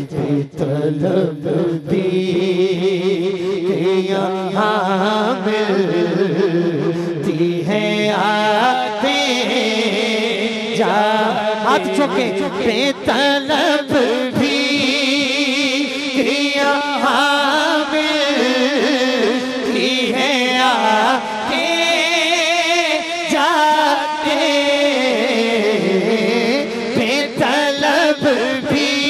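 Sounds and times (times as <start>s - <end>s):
man singing: 0.0s - 29.0s.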